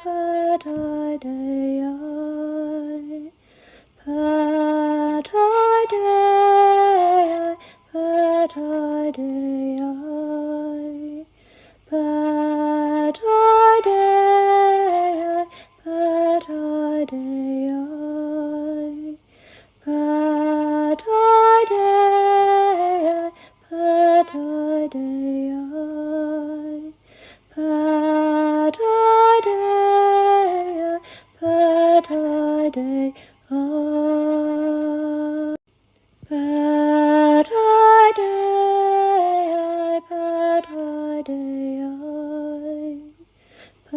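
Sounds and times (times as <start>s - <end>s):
woman singing unaccompanied: 0.0s - 35.6s, 36.2s - 43.9s.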